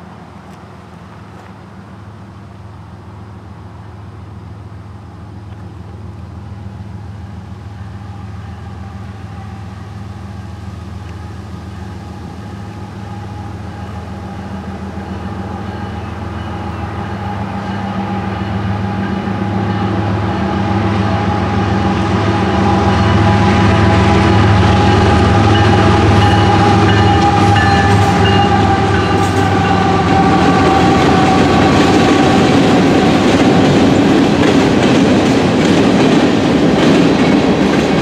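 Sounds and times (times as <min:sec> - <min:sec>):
locomotive diesel engines humming: 0:00.0 - 0:38.0.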